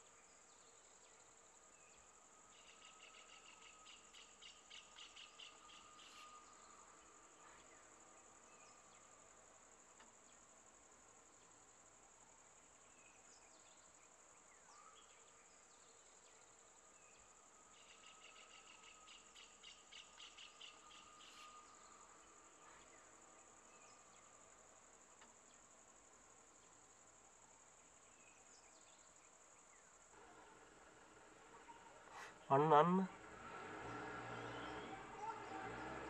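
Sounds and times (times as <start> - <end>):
rapid pulsing insect chirps: 0.0 - 36.0.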